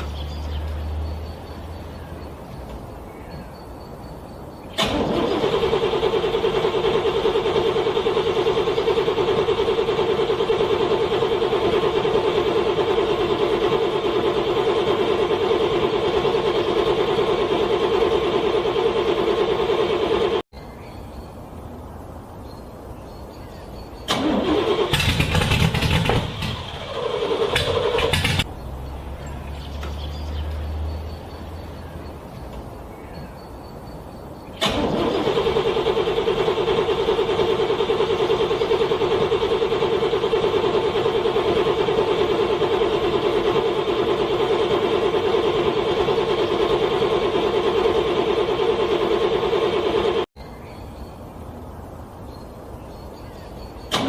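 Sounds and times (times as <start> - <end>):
car engine cranking: 0.0 - 20.4, 24.0 - 32.9, 34.5 - 50.3.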